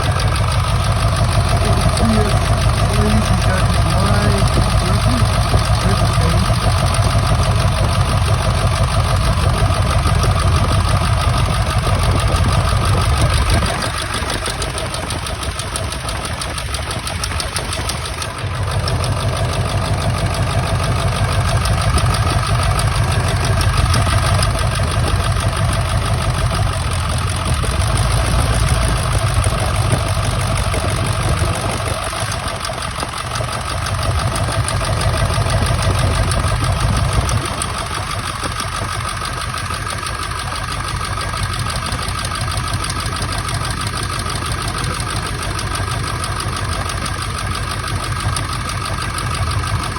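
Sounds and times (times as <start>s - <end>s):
diesel engine idling roughly: 0.0s - 49.9s.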